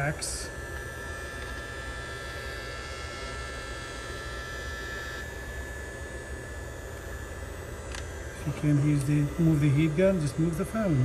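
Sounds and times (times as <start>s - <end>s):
heat gun blower hum: 0.0s - 11.0s.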